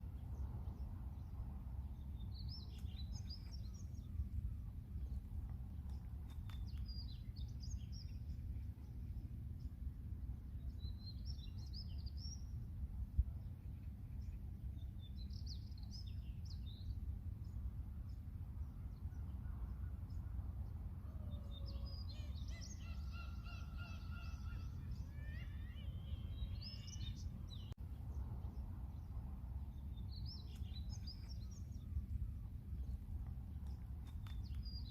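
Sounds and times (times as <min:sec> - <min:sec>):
low outdoor rumble: 0:00.0 - 0:34.9.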